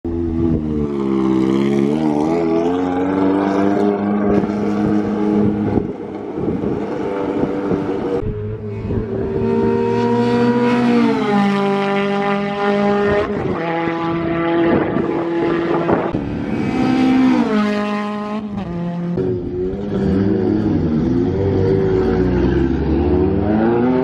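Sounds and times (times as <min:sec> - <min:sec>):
race car engine revving: 0:00.3 - 0:24.0.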